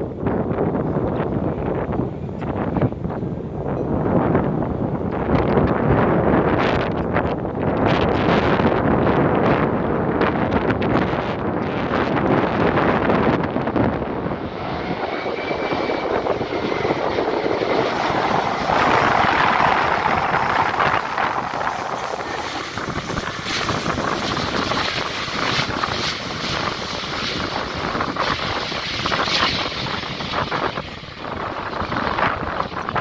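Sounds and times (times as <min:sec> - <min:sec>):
jet engine rumble: 0:00.0 - 0:33.0.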